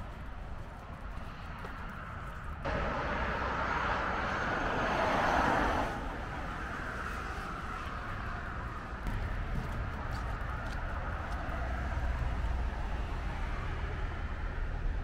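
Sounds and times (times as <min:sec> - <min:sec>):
steady traffic hum: 0:00.0 - 0:15.0
vehicles passing: 0:00.0 - 0:15.0
lorry passing: 0:01.8 - 0:14.3.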